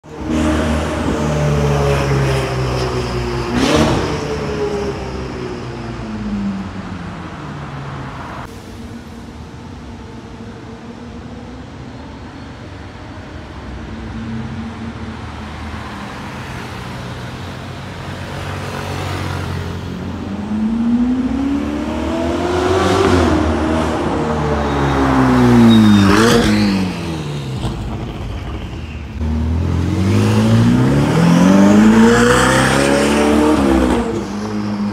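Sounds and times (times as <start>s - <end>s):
traffic hum: 0.0s - 34.9s.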